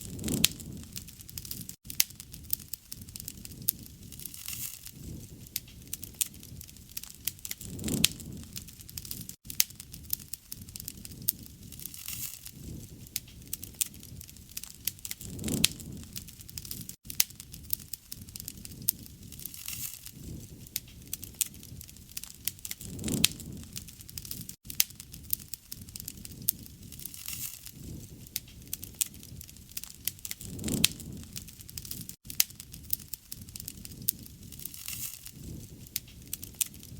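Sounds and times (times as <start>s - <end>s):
low noise of flames: 0.0s - 36.9s
wood fire crackling and popping: 0.0s - 36.9s.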